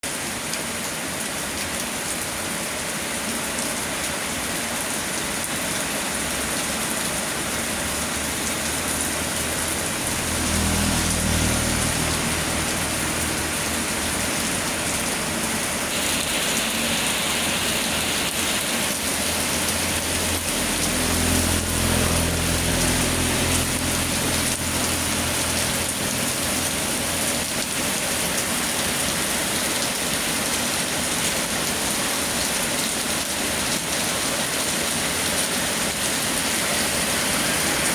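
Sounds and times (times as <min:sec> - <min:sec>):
steady rain falling: 0:00.1 - 0:37.9.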